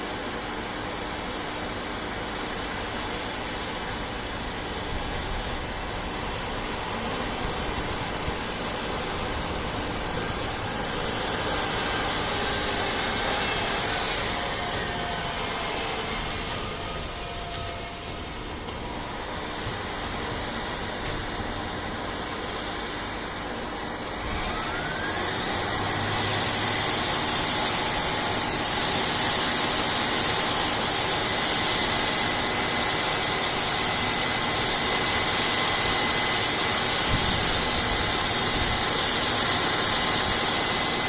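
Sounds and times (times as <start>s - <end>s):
heavy machinery running: 0.0s - 41.0s.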